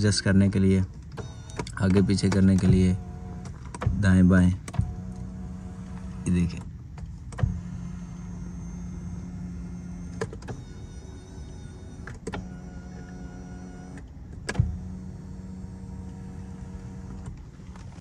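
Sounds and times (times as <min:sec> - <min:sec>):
electric motor humming: 0:01.2 - 0:06.5, 0:07.4 - 0:17.4.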